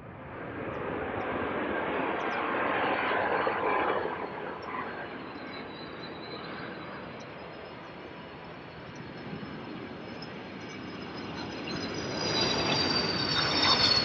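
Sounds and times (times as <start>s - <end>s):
jet engines and airflow rushing: 0.0s - 14.0s.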